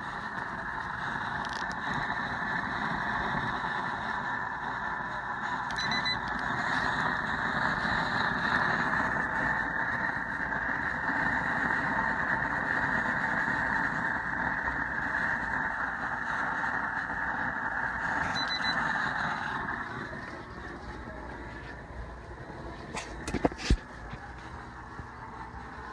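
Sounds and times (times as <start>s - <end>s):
roar of burner flame: 0.0s - 25.9s.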